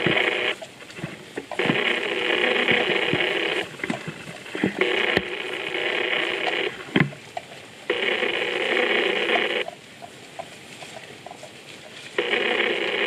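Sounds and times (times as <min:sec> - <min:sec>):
phone ringing: 0:00.0 - 0:09.7, 0:12.2 - 0:13.0.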